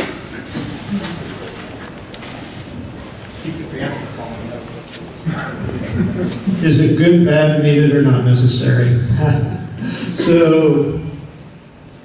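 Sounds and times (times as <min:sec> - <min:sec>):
large hall background noise: 0:00.0 - 0:12.0.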